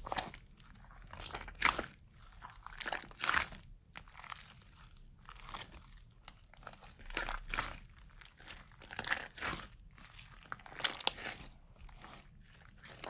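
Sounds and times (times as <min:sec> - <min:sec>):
slime squished and crackling: 0:00.0 - 0:13.0.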